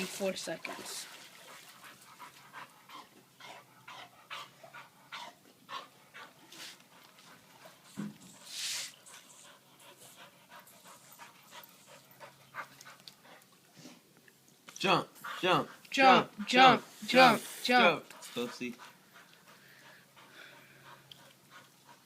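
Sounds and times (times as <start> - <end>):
dog panting: 1.4 - 13.6, 15.0 - 22.0.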